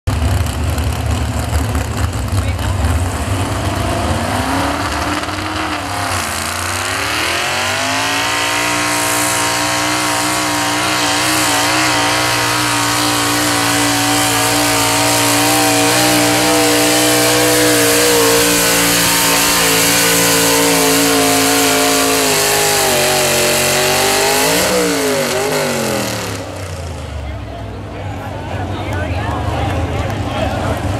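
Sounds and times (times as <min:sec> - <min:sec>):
truck engine at full throttle: 0:00.1 - 0:30.9.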